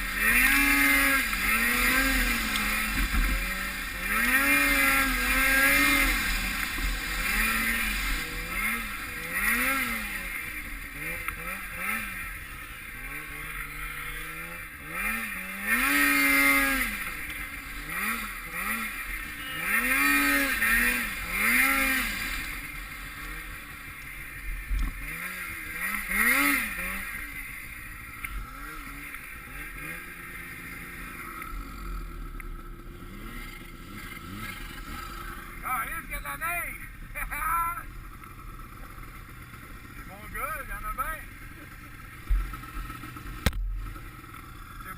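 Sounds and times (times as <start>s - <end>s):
snowmobile engines revving: 0.0s - 44.9s.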